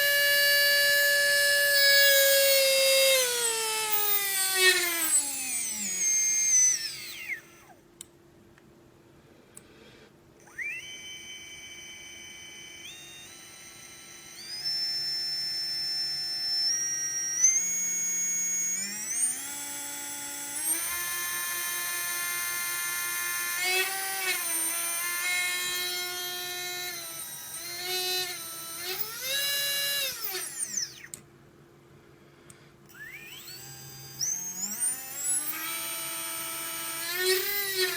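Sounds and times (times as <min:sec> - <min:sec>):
drone motor whining: 0:00.0 - 0:07.8, 0:10.4 - 0:31.2, 0:32.9 - 0:37.9.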